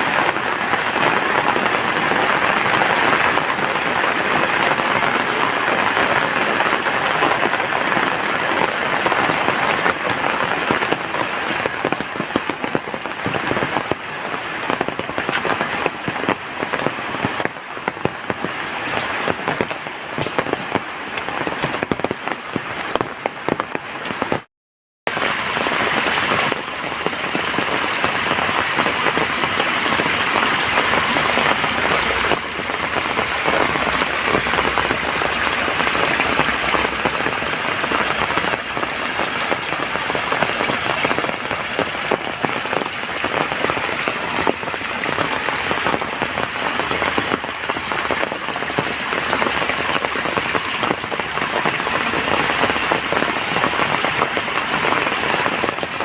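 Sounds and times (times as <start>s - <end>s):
heavy rain falling: 0.0s - 24.5s, 25.1s - 56.0s.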